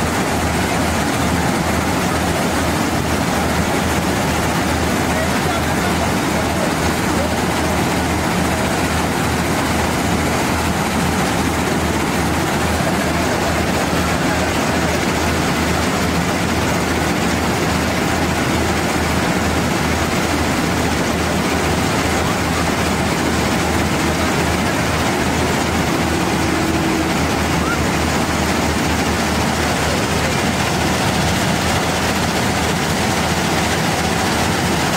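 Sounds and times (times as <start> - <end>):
diesel engine droning: 0.0 - 34.9.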